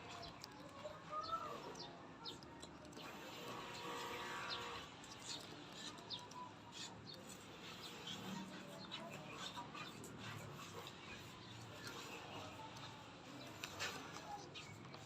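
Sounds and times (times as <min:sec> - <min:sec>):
tortoise chewing wet crunches: 0:00.0 - 0:15.0.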